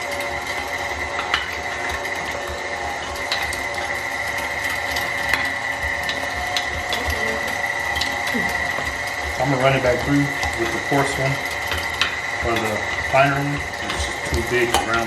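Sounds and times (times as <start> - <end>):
meat grinder whining: 0.0 - 15.0.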